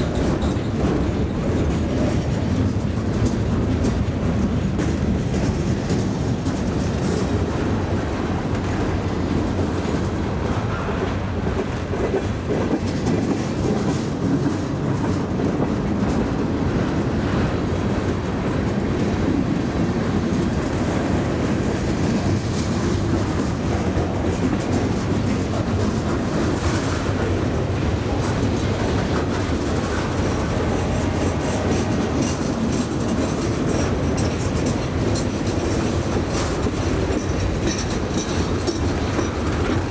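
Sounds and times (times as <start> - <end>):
clicks of wheels and couplings: 0.0 - 39.9
freight train wheels rumbling on rails: 0.0 - 39.9.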